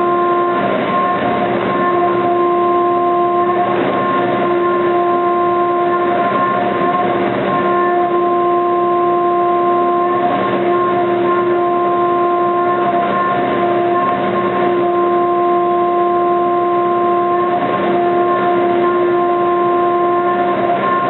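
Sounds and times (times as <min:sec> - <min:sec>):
milling cutter whine: 0:00.0 - 0:21.0.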